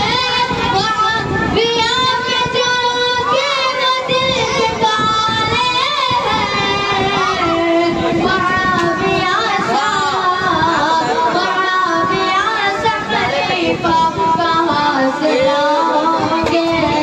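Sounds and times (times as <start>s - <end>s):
boy singing unaccompanied: 0.0s - 17.0s.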